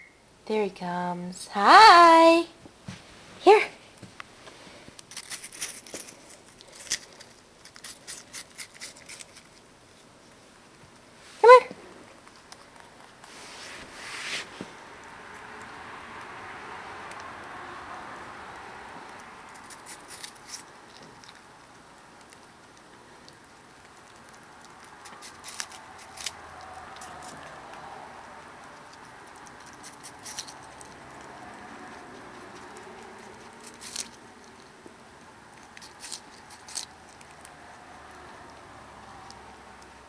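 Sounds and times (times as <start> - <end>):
rabbit crunching apple: 4.5 - 40.0.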